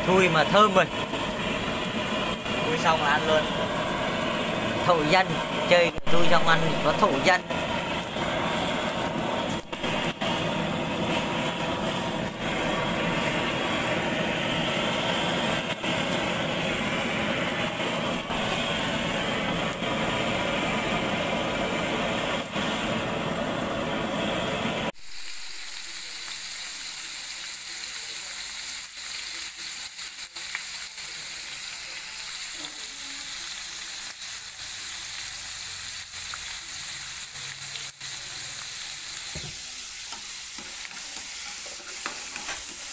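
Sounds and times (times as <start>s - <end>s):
birds sizzling in a frying pan: 0.0s - 42.9s.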